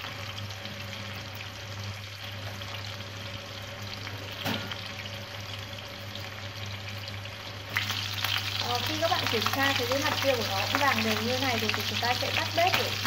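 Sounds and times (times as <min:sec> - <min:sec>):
chicken sizzling and crackling in oil: 0:00.0 - 0:13.0.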